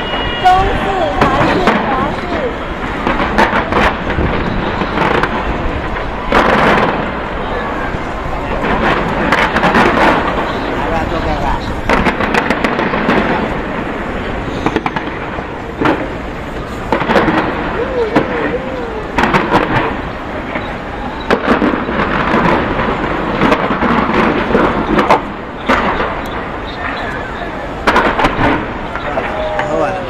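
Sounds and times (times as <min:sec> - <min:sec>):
crowd voices: 0:00.0 - 0:30.0
fireworks bangs: 0:00.0 - 0:30.0
crackle and hiss of bursting shells: 0:02.8 - 0:29.7.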